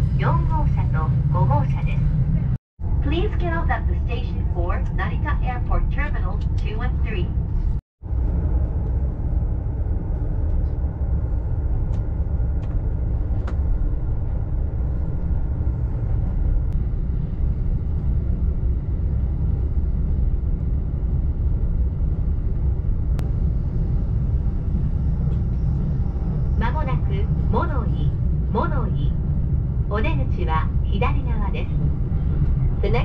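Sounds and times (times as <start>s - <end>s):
train running low rumble: 0.0s - 33.0s.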